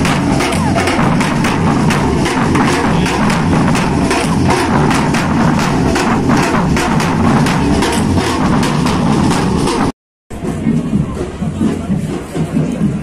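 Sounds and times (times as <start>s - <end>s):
bass drums playing a rhythm: 0.0s - 13.0s.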